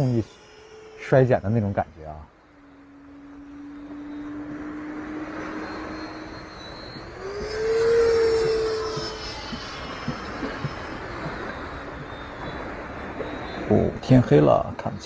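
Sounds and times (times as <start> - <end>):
electric ducted fan whine: 0.0 - 14.2.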